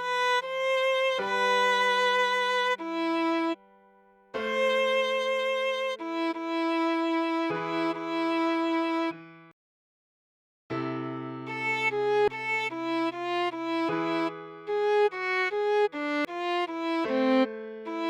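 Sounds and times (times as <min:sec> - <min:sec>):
viola slow melody: 0:00.0 - 0:09.2, 0:11.5 - 0:18.0.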